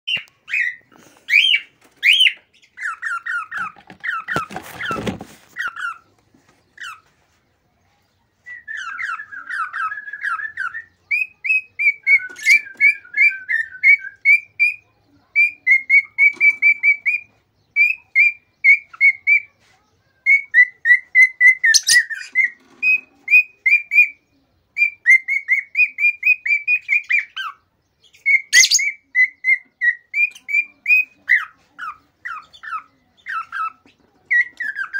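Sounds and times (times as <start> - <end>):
cockatiel whistling song: 0.1 - 4.5, 8.4 - 14.8, 15.4 - 19.5, 20.2 - 24.2, 24.8 - 34.9.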